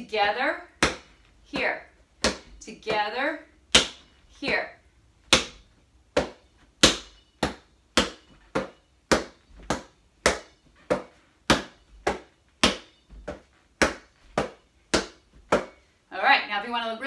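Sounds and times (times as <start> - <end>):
hands slapping a basketball: 0.8 - 3.1, 3.7 - 4.6, 5.2 - 15.8.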